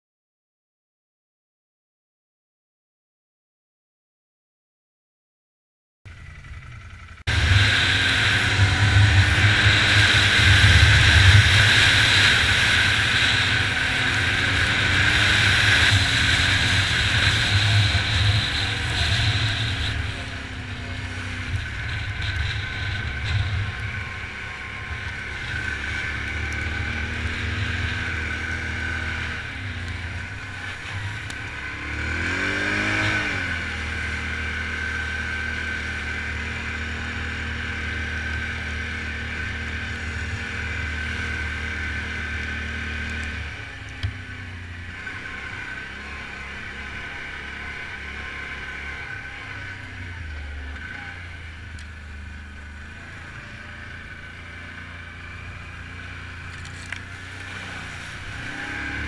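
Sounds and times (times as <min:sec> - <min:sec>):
atv engine running: 0:06.1 - 0:59.0
engine rev: 0:06.1 - 0:59.0.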